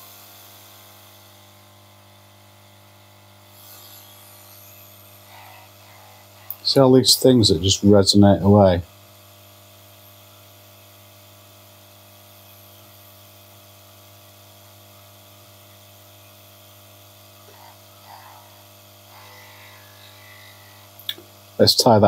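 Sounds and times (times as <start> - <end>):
vacuum pump humming: 0.0 - 9.6, 11.7 - 22.0.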